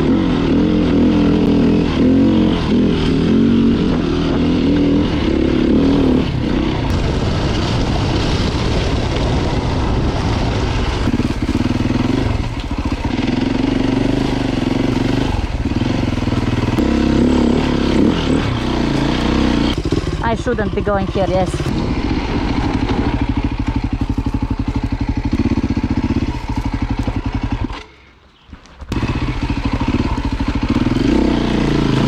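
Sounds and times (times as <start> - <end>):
dirt bike engine revving: 0.0 - 28.1, 28.9 - 32.0.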